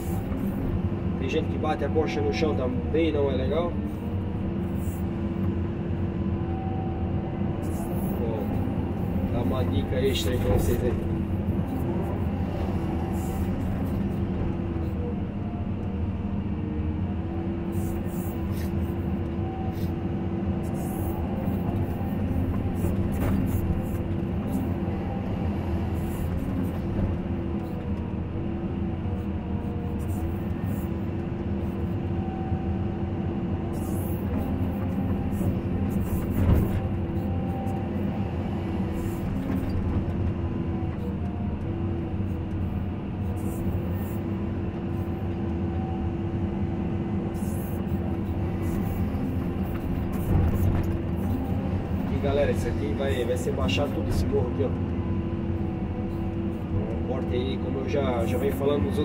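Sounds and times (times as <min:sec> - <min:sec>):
excavator engine and hydraulics droning: 0:00.0 - 0:59.0.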